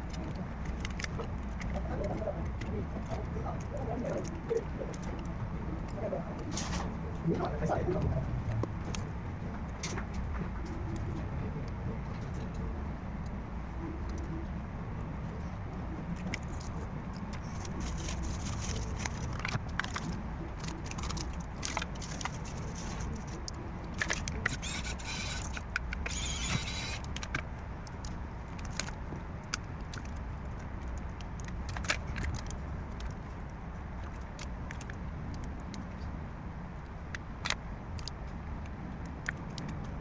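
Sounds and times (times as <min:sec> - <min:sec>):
steady low hum: 0:00.0 - 0:39.2.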